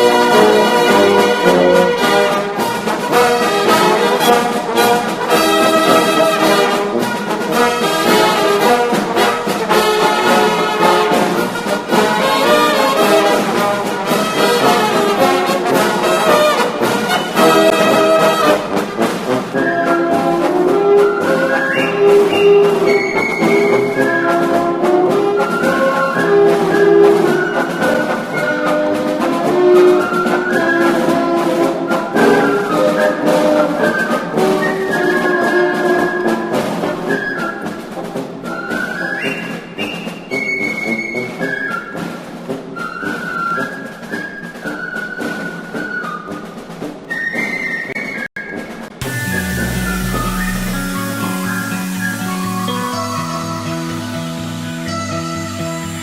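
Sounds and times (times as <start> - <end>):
brass orchestral music: 0.0 - 38.7, 48.9 - 56.0.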